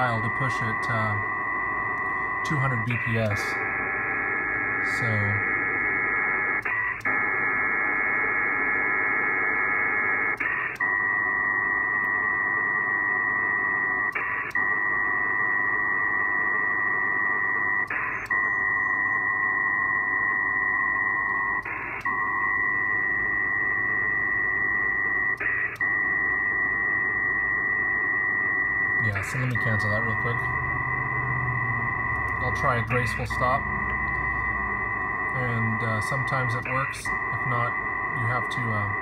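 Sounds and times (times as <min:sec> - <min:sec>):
multi-tone data signal warble: 0:00.0 - 0:39.0
short data signal bursts: 0:00.0 - 0:39.0.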